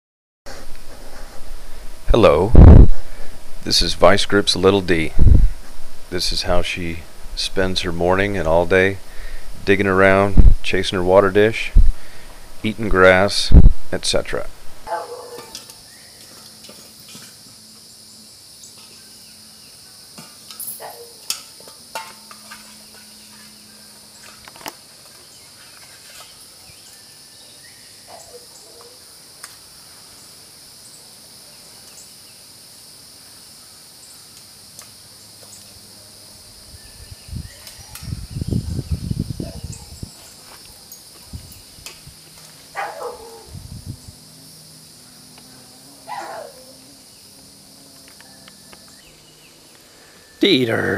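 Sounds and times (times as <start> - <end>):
insect chorus drone: 0.7 - 50.9.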